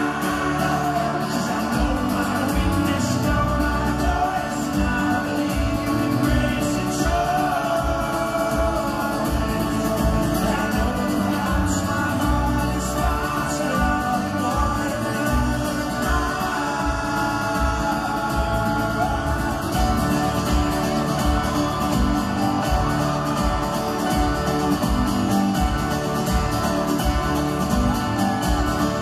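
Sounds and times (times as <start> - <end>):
folk-rock band playing live: 0.0 - 29.0
keyboard: 0.0 - 29.0
person singing: 0.0 - 29.0
strummed acoustic guitar: 0.0 - 29.0.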